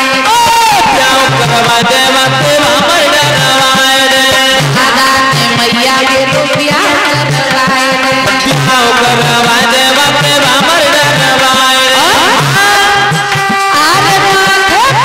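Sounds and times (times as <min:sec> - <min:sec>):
hand drum beat: 0:00.0 - 0:15.0
harmonium melody: 0:00.0 - 0:15.0
person singing: 0:00.0 - 0:15.0.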